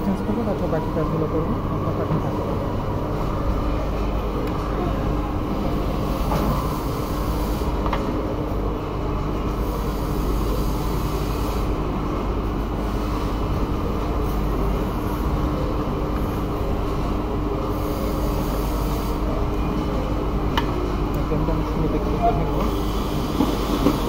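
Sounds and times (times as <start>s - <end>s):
constant hum: 0.0s - 24.0s
low mechanical rumble: 0.0s - 24.0s.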